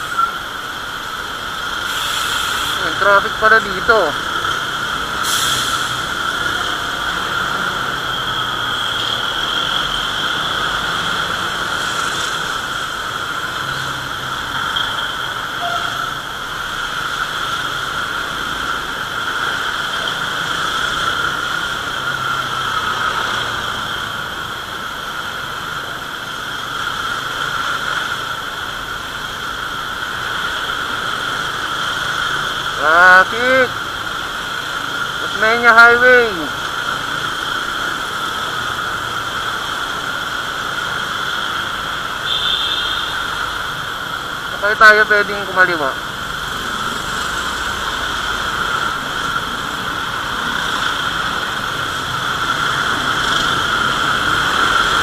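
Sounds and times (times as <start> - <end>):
high steady whine: 0.0 - 22.1, 23.9 - 55.0
wind and road noise: 0.0 - 55.0.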